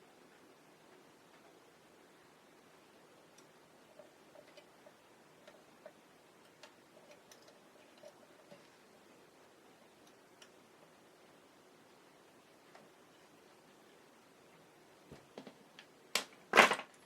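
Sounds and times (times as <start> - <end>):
room hiss: 0.0 - 17.0.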